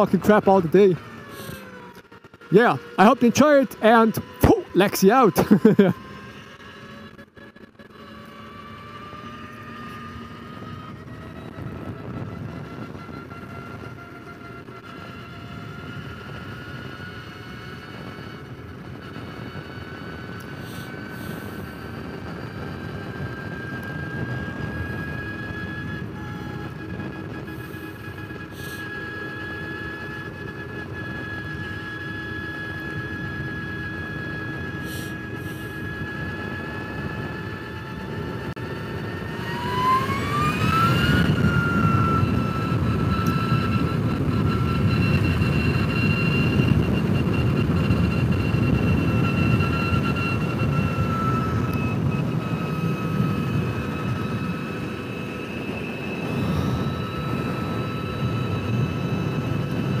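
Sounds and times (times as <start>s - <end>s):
electric motor whine: 0.0s - 60.0s
wind and road noise: 0.0s - 60.0s.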